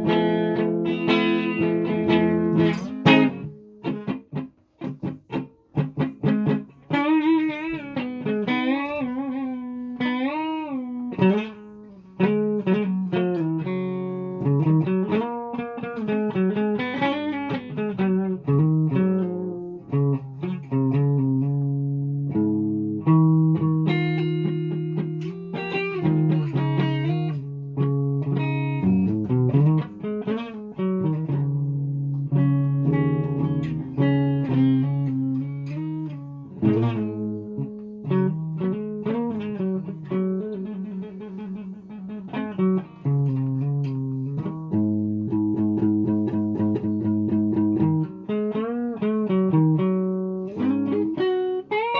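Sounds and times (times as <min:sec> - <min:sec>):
guitar plucked notes and chords: 0:00.0 - 0:51.9.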